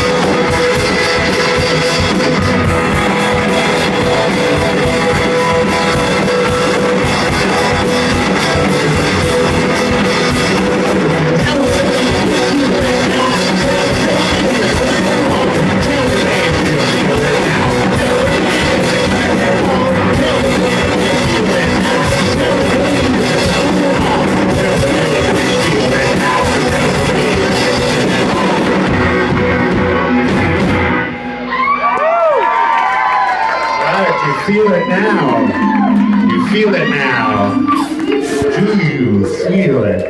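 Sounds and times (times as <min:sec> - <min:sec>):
rock band playing: 0:00.0 - 0:40.0.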